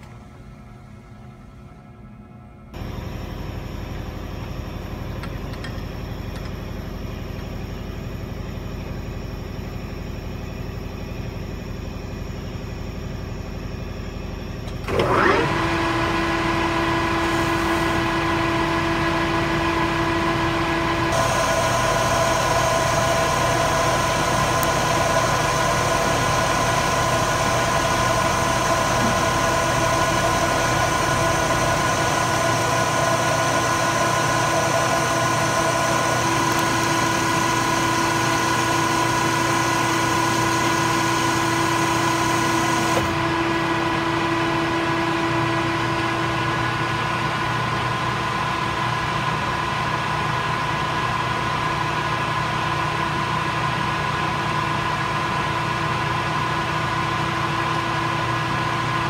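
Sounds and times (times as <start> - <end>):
steady whine: 0.0 - 59.0
metal lathe running: 2.8 - 59.0.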